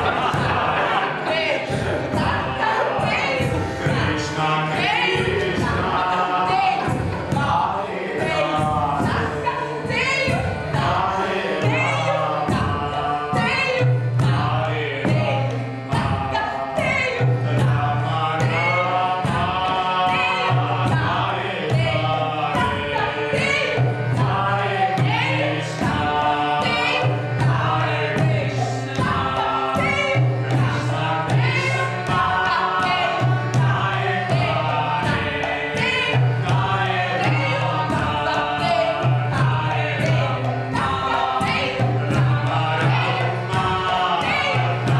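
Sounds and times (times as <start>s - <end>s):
percussion strikes: 0.0s - 44.9s
voices singing: 0.0s - 44.9s.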